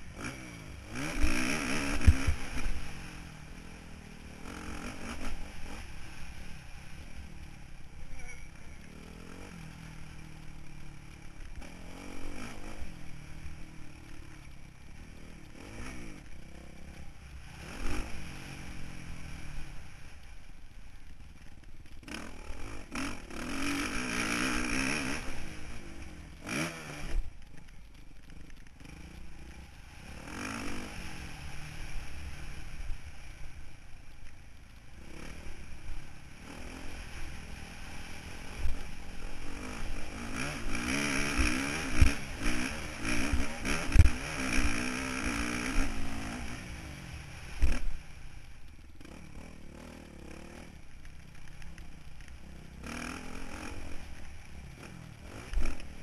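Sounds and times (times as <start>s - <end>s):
motocross bike engine revving: 0.0s - 20.3s, 21.8s - 33.4s, 34.9s - 56.0s
bike rattling and scraping: 0.0s - 56.0s.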